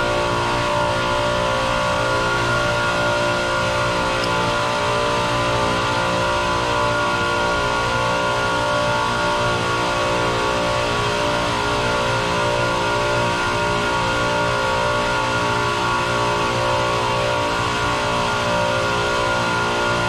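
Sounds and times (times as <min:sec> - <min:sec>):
chiller machinery drone: 0:00.0 - 0:20.0.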